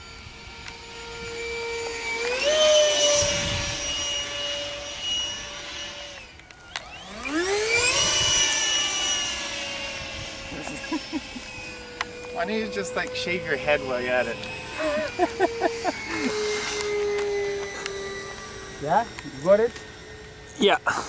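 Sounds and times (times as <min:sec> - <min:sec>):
electric ducted fans whining: 0:00.0 - 0:21.0.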